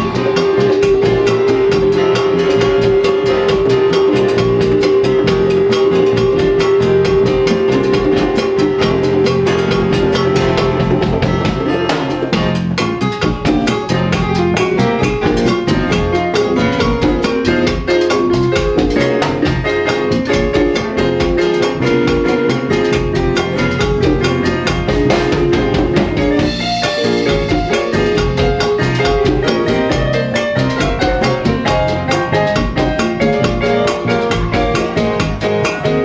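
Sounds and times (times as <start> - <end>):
drums and percussion beat: 0.0 - 36.0
latin jazz band playing: 0.0 - 36.0.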